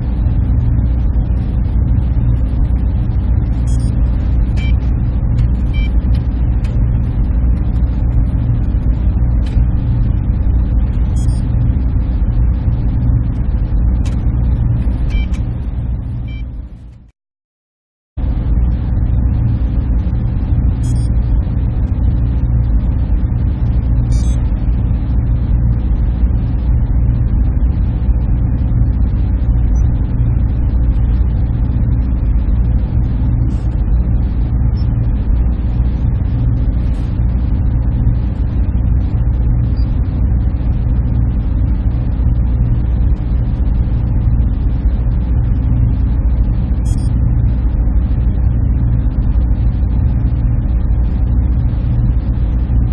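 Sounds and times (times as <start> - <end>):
server equipment low hum: 0.0 - 17.1, 18.2 - 52.9.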